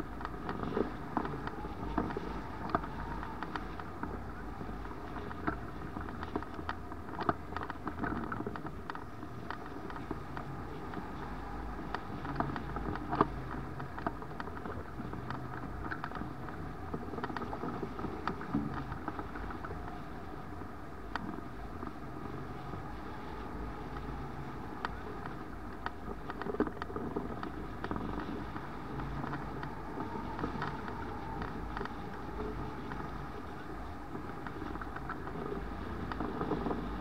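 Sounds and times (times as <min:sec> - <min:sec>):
wind rushing with low rumble: 0:00.0 - 0:37.0.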